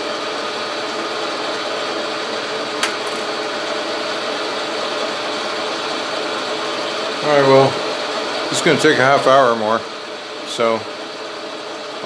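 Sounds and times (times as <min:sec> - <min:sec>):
metal lathe running: 0:00.0 - 0:12.0.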